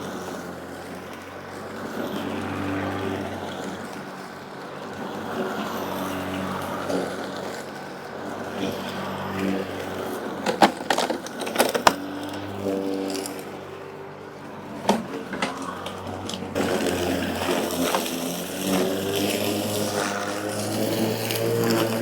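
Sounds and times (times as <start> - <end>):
electric lawn mower humming: 0.0 - 22.0.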